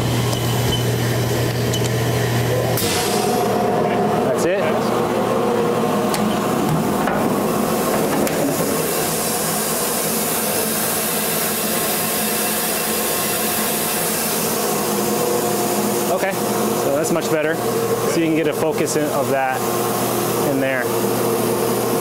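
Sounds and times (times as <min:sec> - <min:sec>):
laser cutting machine humming: 0:00.0 - 0:22.0.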